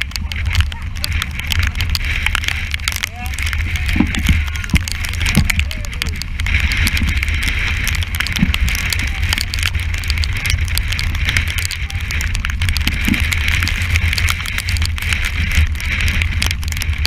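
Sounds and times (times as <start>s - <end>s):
breaking sea: 0.0s - 17.0s
spray crackling on camera: 0.0s - 17.0s
wind buffeting microphone: 0.0s - 17.0s.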